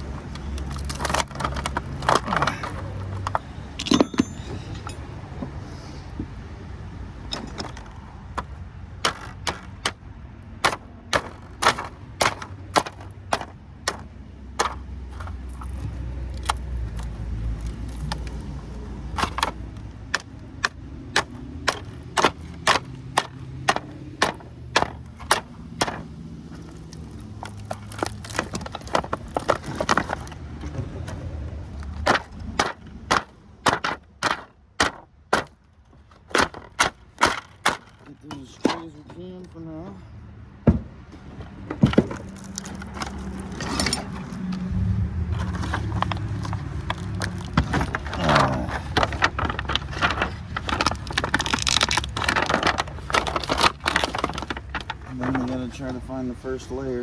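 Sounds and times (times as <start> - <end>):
passing vehicle rumble: 0.0 - 34.2, 39.6 - 57.0.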